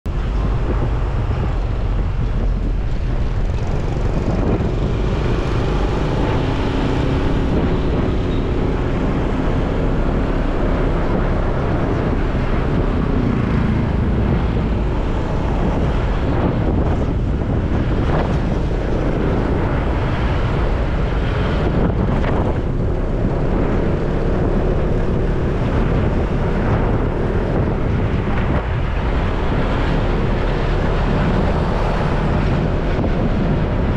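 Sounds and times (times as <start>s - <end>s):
wind rushing over microphone: 0.0s - 33.9s.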